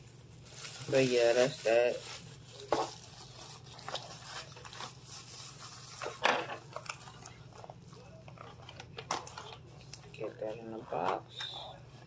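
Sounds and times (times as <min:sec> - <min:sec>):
bubble wrap crinkling: 0:00.0 - 0:10.8.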